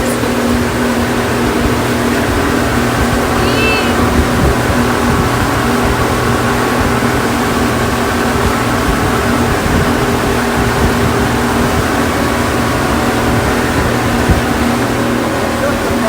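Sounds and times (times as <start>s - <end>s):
motorboat engine humming: 0.0s - 16.0s
rushing wind and water: 0.0s - 16.0s.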